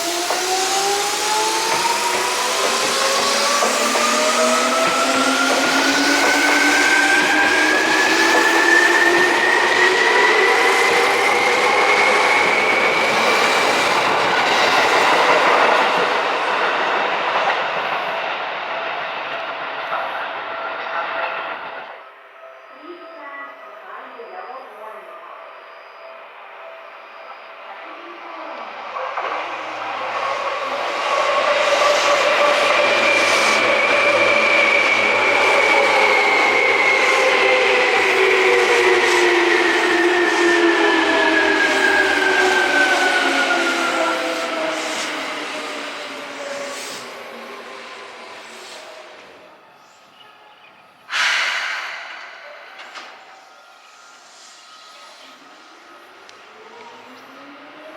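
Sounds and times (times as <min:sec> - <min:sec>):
electric train rumble: 0:00.0 - 0:57.9.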